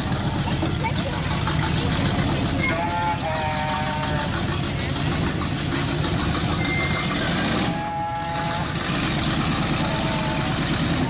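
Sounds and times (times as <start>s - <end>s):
truck engine under load: 0.0s - 11.0s
tyres churning through mud: 0.0s - 11.0s.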